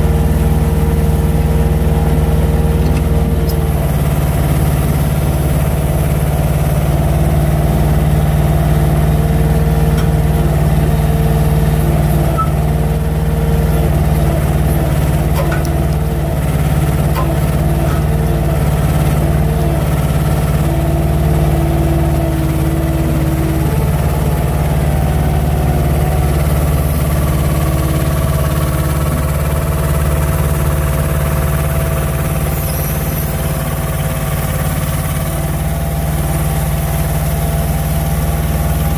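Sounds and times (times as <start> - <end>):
diesel engine running: 0.0 - 38.9
hydraulic crane tones: 2.1 - 35.3.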